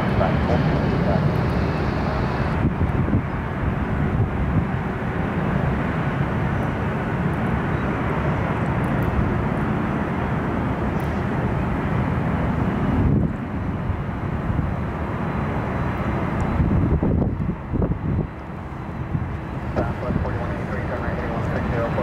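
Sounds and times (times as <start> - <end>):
deep jet engine noise: 0.0 - 22.0.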